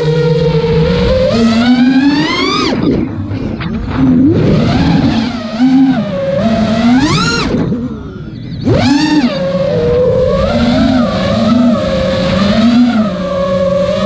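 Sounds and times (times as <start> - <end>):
quadcopter propellers whining: 0.0 - 14.0.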